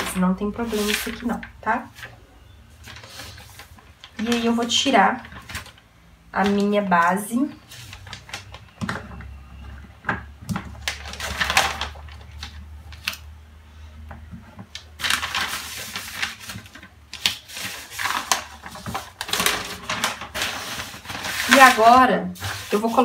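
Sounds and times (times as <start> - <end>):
paper rustling and crinkling: 0.0 - 5.8, 7.5 - 9.8, 10.5 - 13.2, 14.4 - 23.0.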